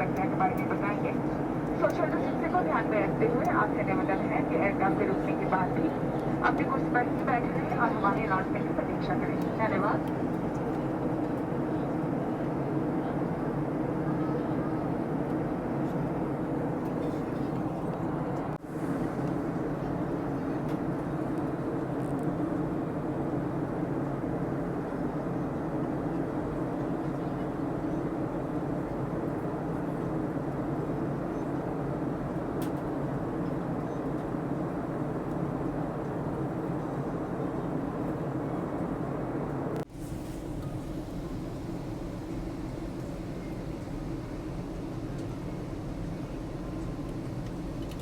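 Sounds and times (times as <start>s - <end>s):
airliner cabin engine drone: 0.0s - 48.0s.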